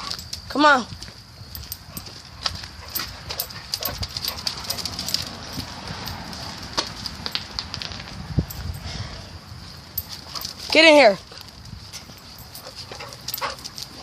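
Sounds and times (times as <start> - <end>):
dogs scuffling: 0.0 - 8.6, 9.7 - 14.0.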